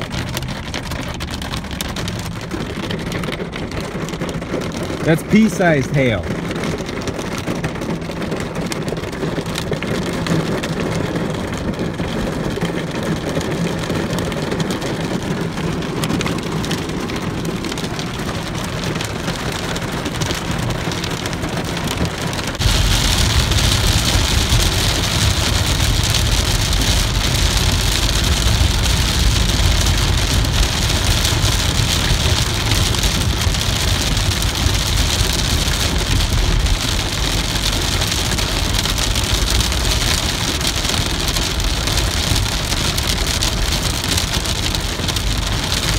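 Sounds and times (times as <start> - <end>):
hail and rain on a car: 0.0 - 45.9
low road rumble: 0.0 - 45.9.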